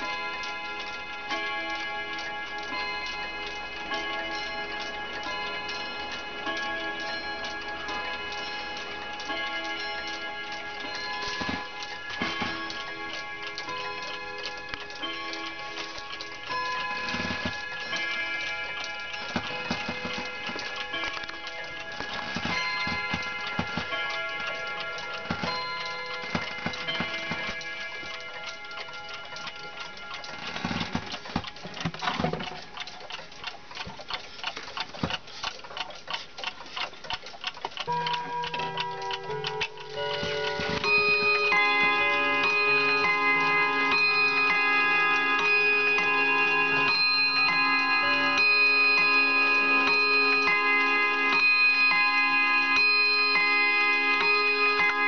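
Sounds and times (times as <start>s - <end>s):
clock strike ringing: 0.0s - 34.9s, 37.8s - 55.0s
wall clock ticking: 0.0s - 55.0s.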